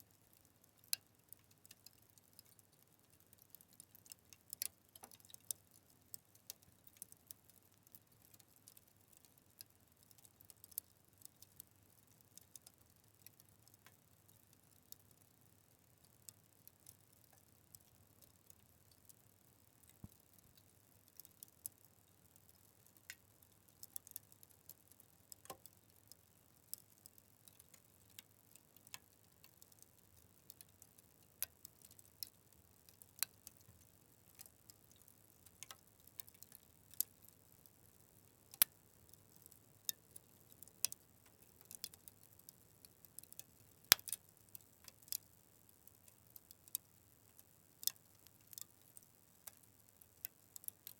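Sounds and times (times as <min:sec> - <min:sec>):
wood fire crackling: 0:00.2 - 0:15.3, 0:15.9 - 0:42.4, 0:43.1 - 0:45.3, 0:46.0 - 0:49.6, 0:50.3 - 0:50.9.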